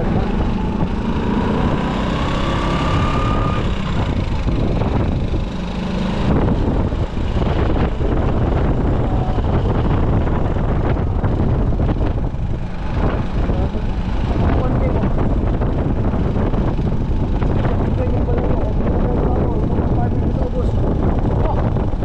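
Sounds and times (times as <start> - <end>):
scooter engine and road rumble: 0.0 - 22.0
wind buffeting microphone: 0.0 - 22.0.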